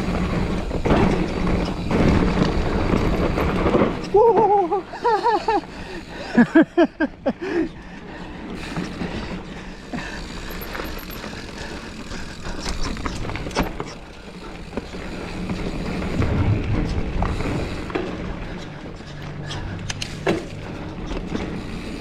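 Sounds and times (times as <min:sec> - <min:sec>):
bike knocking and rattling: 0:00.0 - 0:22.0
tyre and wind noise: 0:00.0 - 0:22.0.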